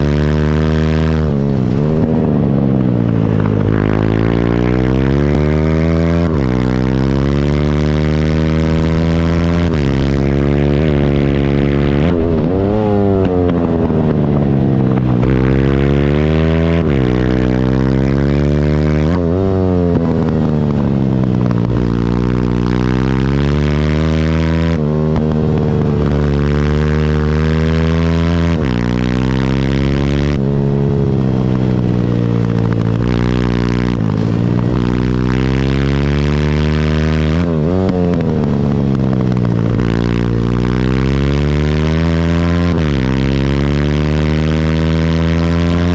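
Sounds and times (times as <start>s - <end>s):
motorbike engine revving hard: 0.0s - 45.9s.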